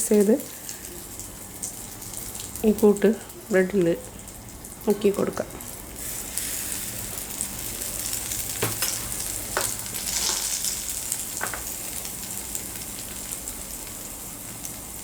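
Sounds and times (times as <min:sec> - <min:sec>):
bread sizzling in a frying pan: 0:00.0 - 0:15.0.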